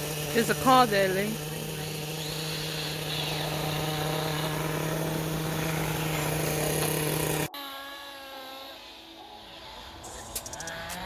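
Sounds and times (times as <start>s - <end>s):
motor with rising and falling pitch: 0.0s - 11.0s
toy car motor running: 0.0s - 11.0s.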